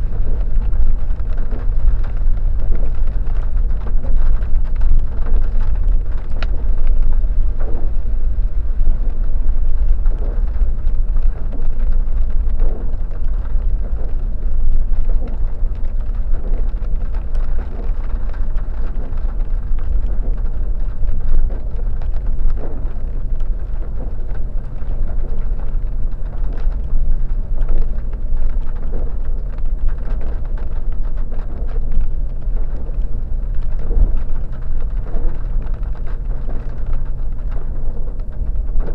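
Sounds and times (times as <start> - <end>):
off-road vehicle engine rumble: 0.0 - 38.9.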